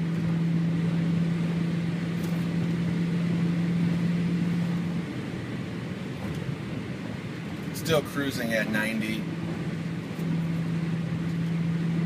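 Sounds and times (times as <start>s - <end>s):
car engine drone: 0.0s - 12.0s
road and wind noise: 0.0s - 12.0s.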